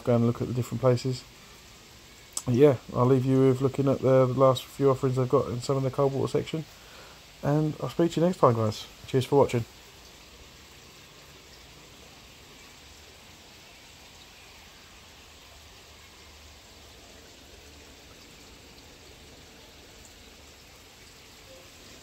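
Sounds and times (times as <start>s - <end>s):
fish tank water running: 0.0s - 22.0s.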